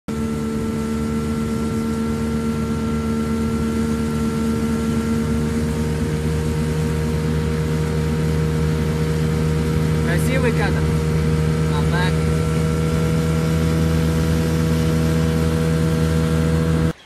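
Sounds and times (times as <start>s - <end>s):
outboard motor running: 0.0s - 17.0s
water noise: 0.1s - 17.0s.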